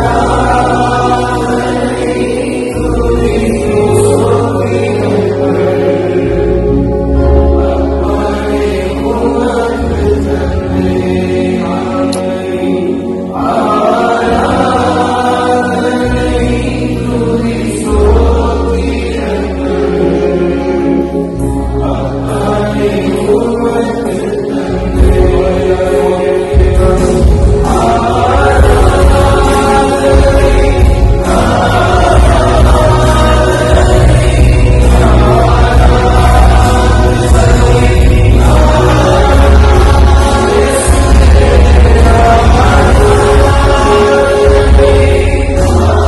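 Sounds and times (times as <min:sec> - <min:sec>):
congregation singing: 0:00.0 - 0:46.0
sustained low accompaniment: 0:00.0 - 0:46.0.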